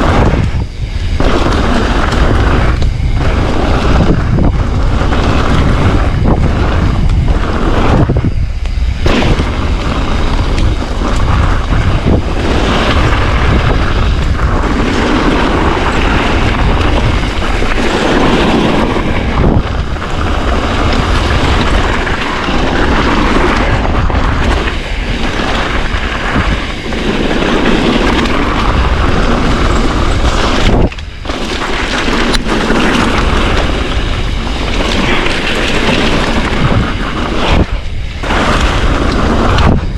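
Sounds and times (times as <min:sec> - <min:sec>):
bike tyres on gravel: 0:00.0 - 0:39.9
wind buffeting microphone: 0:00.0 - 0:39.9.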